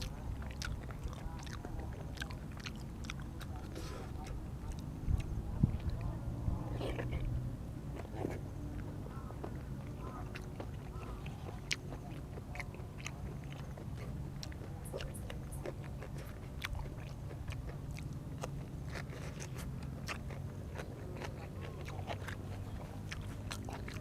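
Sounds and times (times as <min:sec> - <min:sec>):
chewing and biting food: 0:00.0 - 0:24.0
steady low hum: 0:00.0 - 0:24.0.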